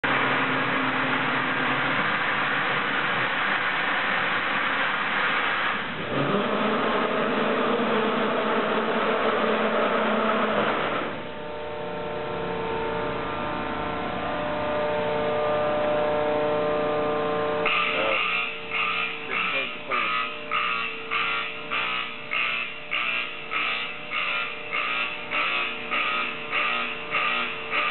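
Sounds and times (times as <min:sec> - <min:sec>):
industrial machinery running: 0:00.0 - 0:27.9.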